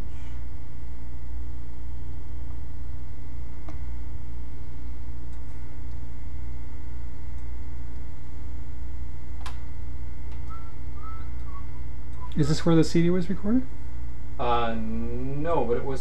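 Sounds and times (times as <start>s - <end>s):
electrical mains hum: 0.0s - 16.0s
faint high whine: 0.0s - 16.0s.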